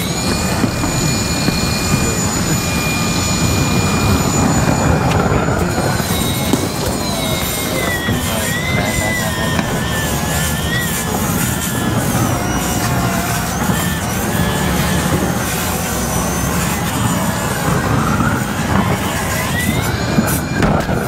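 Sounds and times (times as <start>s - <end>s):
roofing torch flame rushing: 0.0s - 21.0s.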